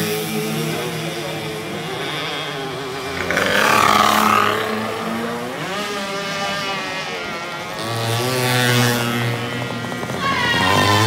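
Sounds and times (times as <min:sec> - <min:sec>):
moped engines buzzing past: 0:00.0 - 0:11.0.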